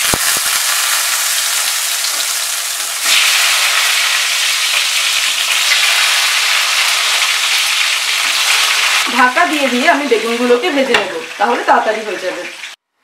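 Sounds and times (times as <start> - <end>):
vegetable slices sizzling in oil: 0.0 - 12.8.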